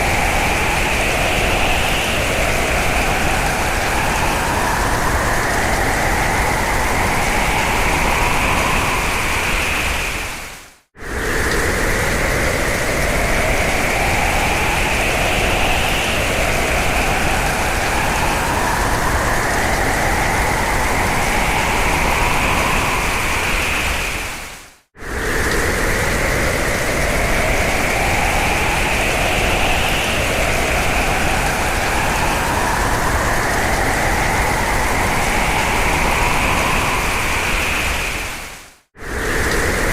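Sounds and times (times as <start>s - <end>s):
strong wind howling: 0.0s - 39.9s.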